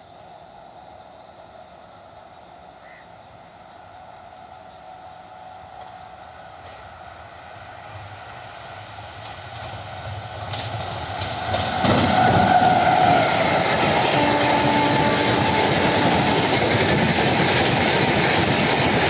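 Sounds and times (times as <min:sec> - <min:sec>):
train rumble: 0:00.1 - 0:19.0.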